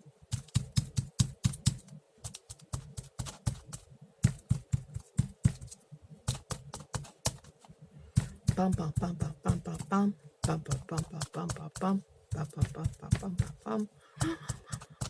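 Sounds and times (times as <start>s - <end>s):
sponge tapping on paper: 0.3s - 15.0s.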